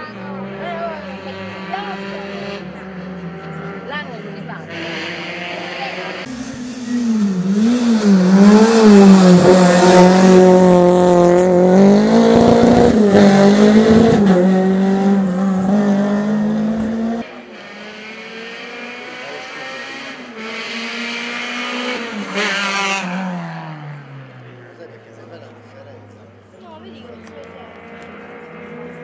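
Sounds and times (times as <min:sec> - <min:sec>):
rally car engine at high revs: 0:00.0 - 0:25.8, 0:27.1 - 0:29.0.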